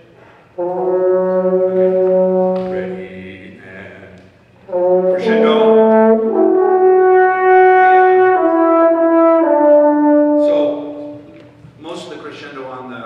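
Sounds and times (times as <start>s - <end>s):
wind band playing sustained chords: 0.5s - 12.1s.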